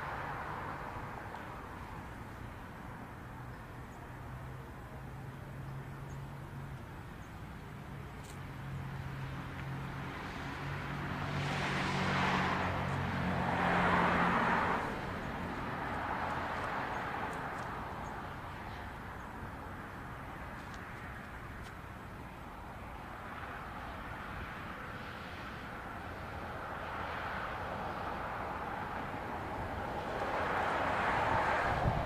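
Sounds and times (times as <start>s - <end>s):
road vehicle passing by: 0.0s - 32.0s.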